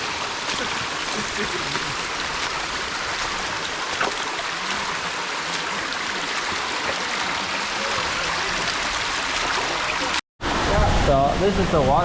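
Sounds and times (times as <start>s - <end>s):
rocky stream rushing: 0.0s - 10.2s
waterfall: 0.0s - 12.0s.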